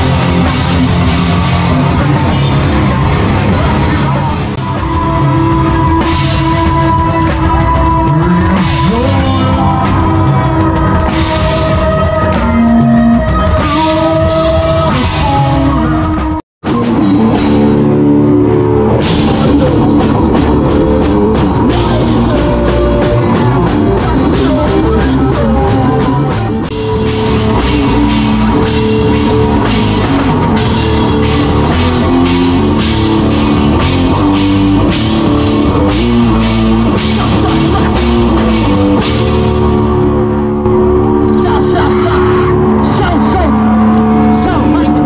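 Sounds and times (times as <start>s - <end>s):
instrumental rock band: 0.0s - 45.0s.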